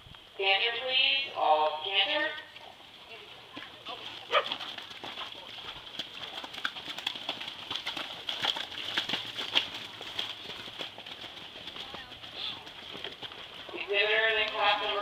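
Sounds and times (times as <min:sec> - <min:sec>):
horse hoofbeats on dirt: 0:01.4 - 0:15.0.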